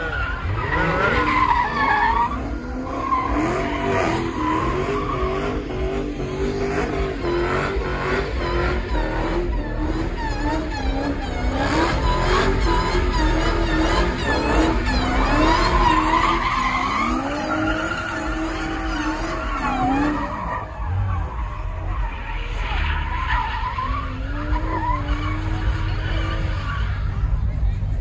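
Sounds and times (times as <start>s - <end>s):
tyres screeching: 0.0s - 27.2s
car engine revving: 0.0s - 28.0s.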